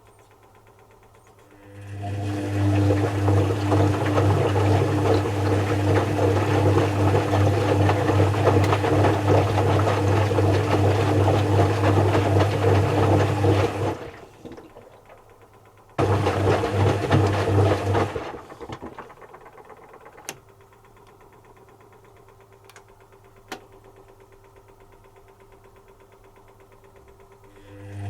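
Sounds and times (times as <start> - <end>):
washing machine running: 0.0 - 28.0.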